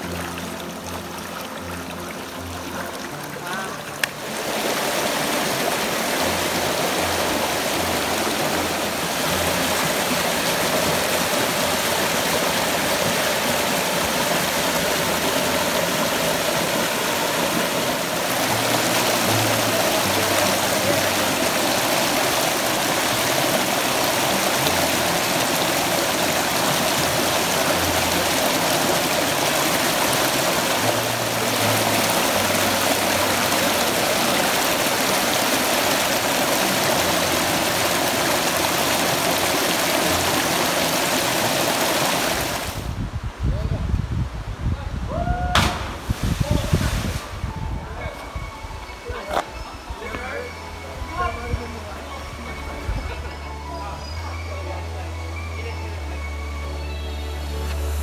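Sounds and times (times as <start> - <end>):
creek water rushing over boulders: 0.0 - 58.0.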